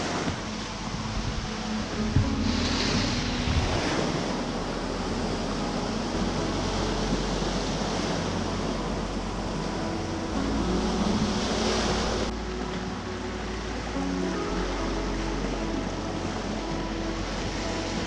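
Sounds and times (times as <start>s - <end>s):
sea surf on rocky shore: 0.0s - 18.0s.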